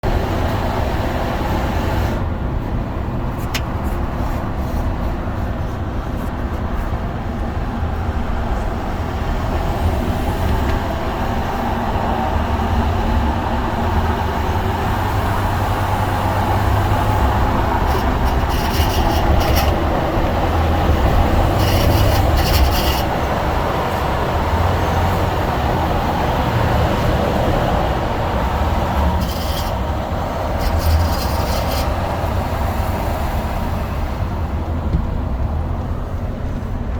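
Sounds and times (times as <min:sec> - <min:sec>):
rattle under truck: 0:00.0 - 0:36.9
truck engine running: 0:00.0 - 0:36.9.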